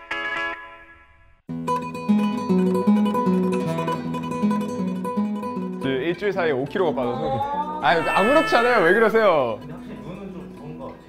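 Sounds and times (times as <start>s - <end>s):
plucked guitar pattern: 1.5s - 11.0s.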